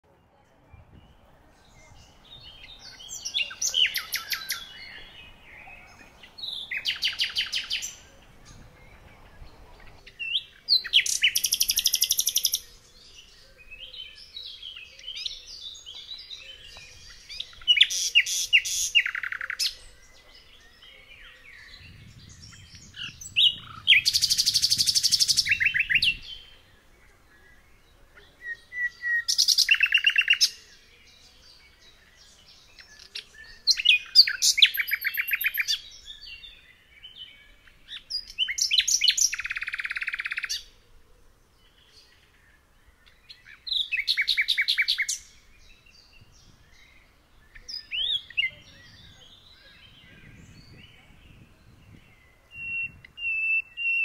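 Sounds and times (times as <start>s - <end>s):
soft bird chirps: 0.1s - 40.8s, 41.5s - 54.0s
songbird trilling: 1.1s - 26.8s, 28.2s - 30.6s, 32.6s - 40.7s, 43.0s - 46.2s, 46.8s - 54.0s.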